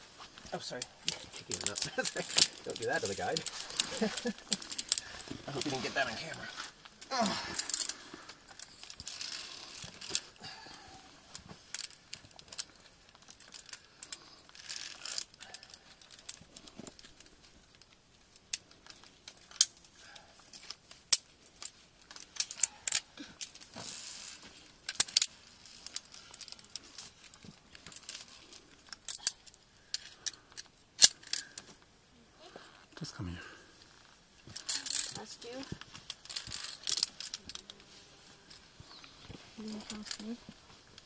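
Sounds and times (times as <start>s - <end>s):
climbing gear clinking on metal: 0.6s - 6.6s, 7.2s - 17.3s, 18.4s - 31.6s, 34.0s - 38.6s.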